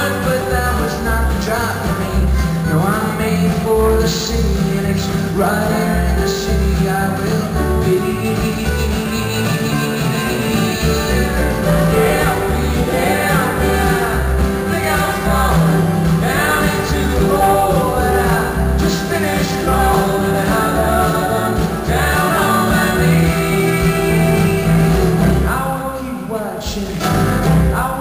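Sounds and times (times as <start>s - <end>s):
acoustic guitars and banjo: 0.0s - 28.0s
people singing: 0.0s - 28.0s.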